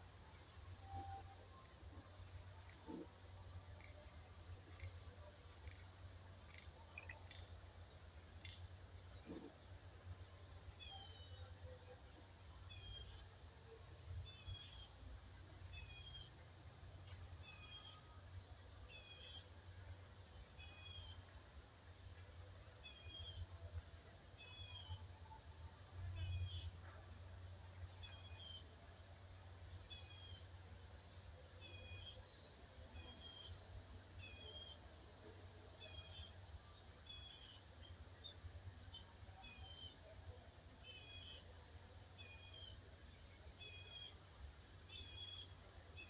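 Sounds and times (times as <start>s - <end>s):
insect hiss: 0.0s - 46.0s.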